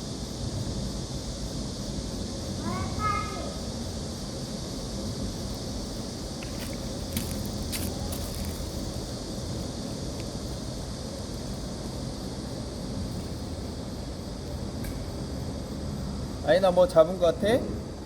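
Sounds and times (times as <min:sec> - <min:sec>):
high hiss: 0:00.0 - 0:18.0.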